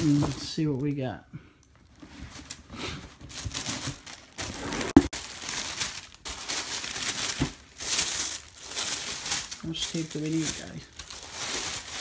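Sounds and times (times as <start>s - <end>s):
tissue paper rustling: 1.9s - 12.0s.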